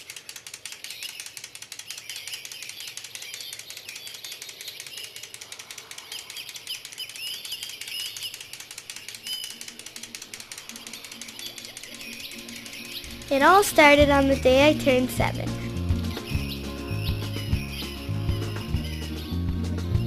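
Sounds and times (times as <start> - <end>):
dense rapid clicking: 0.0 - 20.0
birds chirping: 0.6 - 20.0.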